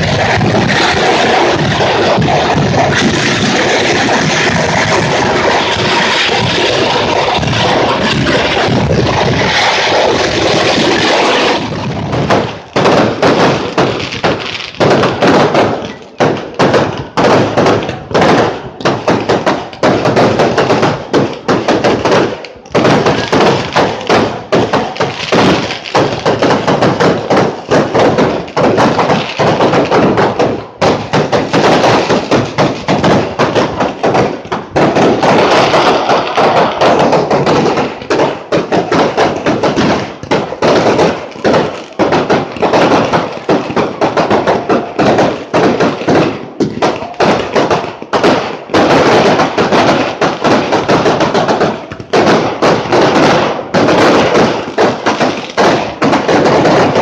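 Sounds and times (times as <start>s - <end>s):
firework shells bursting: 0.0s - 57.0s.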